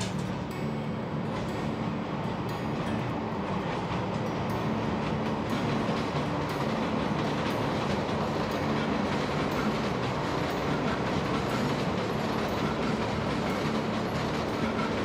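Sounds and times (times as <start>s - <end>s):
wheels clacking over rail joints: 0.0s - 0.6s, 1.3s - 15.0s
electric train rumble: 0.0s - 15.0s.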